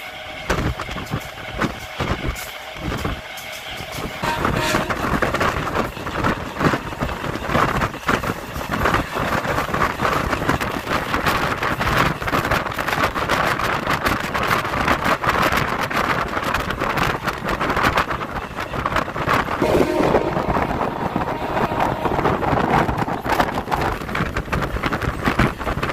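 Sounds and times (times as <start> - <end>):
train wheels rumbling and clattering: 0.0 - 25.9
wind rushing over microphone: 4.0 - 25.9.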